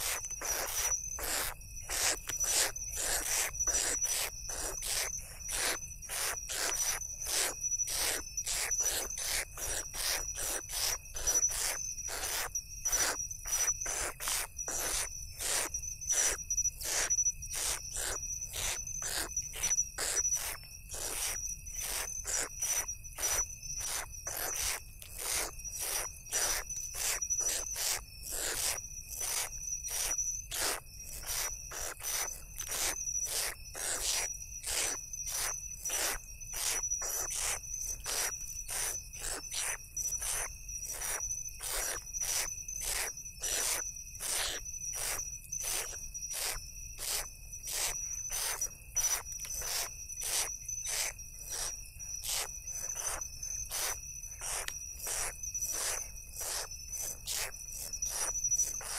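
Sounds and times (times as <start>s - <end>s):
high insect trill: 0.0s - 58.9s.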